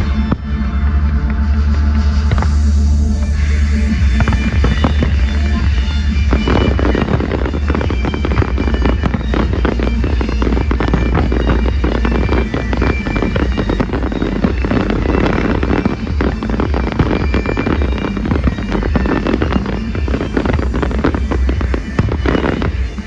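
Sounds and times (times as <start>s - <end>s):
fireworks bursting and crackling: 0.0s - 23.0s
loud music with heavy bass: 0.0s - 23.0s.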